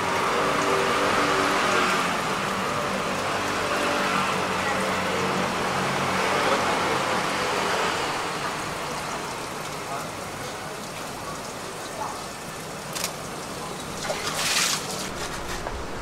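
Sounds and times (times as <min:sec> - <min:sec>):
low traffic hum: 0:00.0 - 0:16.0.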